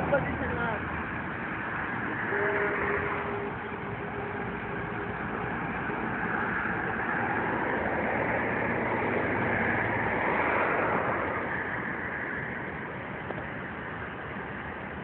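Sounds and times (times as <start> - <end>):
road traffic hiss: 0.0 - 15.0.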